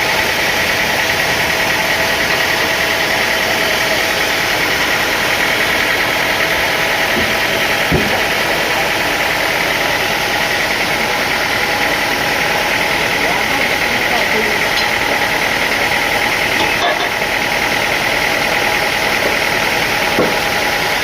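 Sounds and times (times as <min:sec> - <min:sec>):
high machine whine: 0:00.0 - 0:21.0
sawmill machinery drone: 0:00.0 - 0:21.0.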